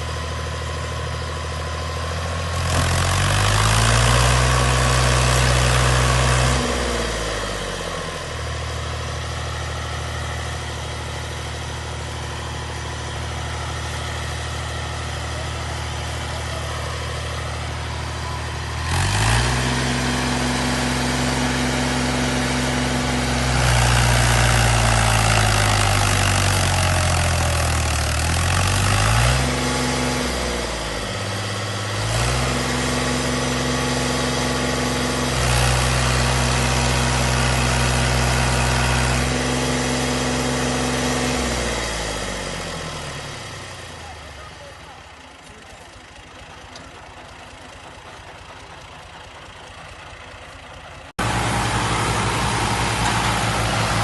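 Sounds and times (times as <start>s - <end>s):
farm machine engine revving: 0.0s - 54.0s.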